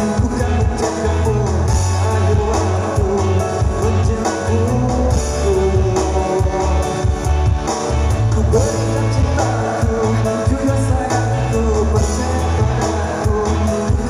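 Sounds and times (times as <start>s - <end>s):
backing music with heavy bass: 0.0s - 14.0s
man singing pop song: 0.0s - 14.0s.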